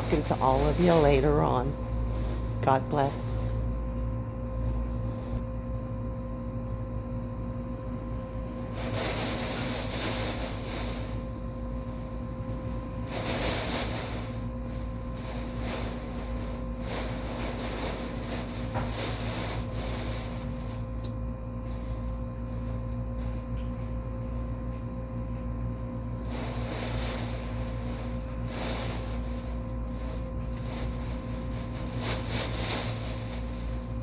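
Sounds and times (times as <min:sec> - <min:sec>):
constant low rumble: 0:00.0 - 0:34.0
steady hum: 0:00.0 - 0:34.0.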